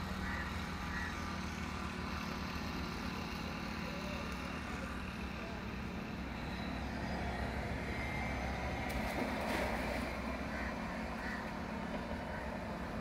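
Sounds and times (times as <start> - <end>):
small engine droning: 0.0 - 13.0.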